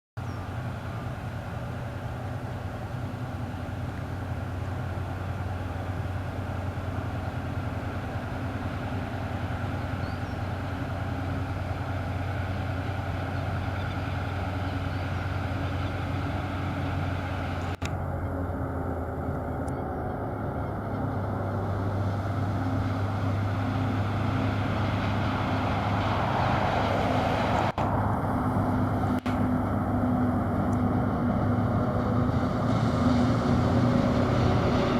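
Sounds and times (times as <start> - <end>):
diesel locomotive drone: 0.2 - 34.9.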